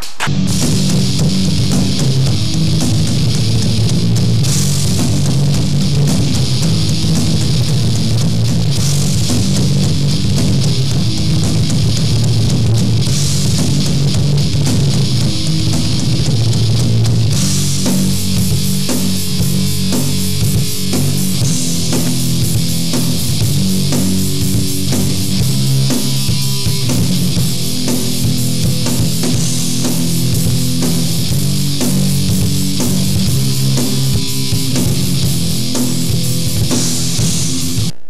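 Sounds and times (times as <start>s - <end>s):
distorted electric guitar: 0.0s - 38.0s
drum kit: 0.0s - 38.0s.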